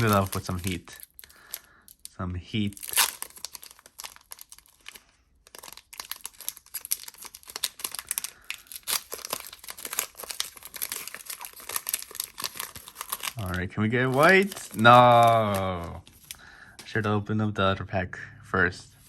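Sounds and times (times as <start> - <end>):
foil wrapper crinkling and tearing: 0.0 - 16.4.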